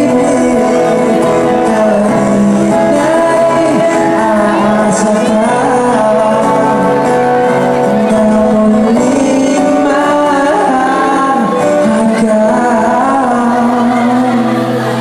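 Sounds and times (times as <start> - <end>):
acoustic guitar: 0.0 - 15.0
person singing into microphone: 0.0 - 15.0.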